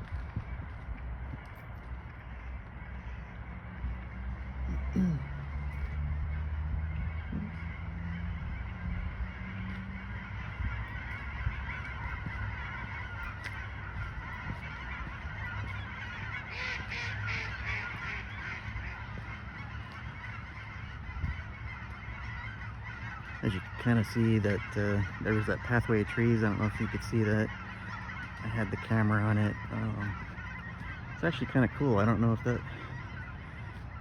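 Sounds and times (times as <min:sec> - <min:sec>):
steady low rumble: 0:00.0 - 0:34.0
waterfowl honking: 0:00.0 - 0:34.0.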